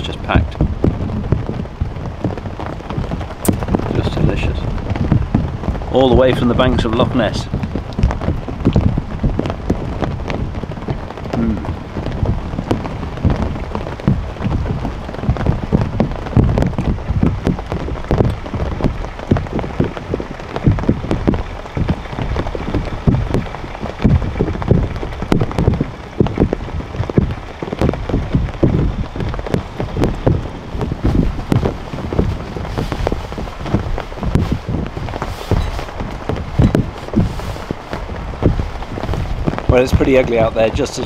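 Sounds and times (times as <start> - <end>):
gusting wind rumble: 0.0 - 41.0
heavy rain falling: 0.0 - 41.0.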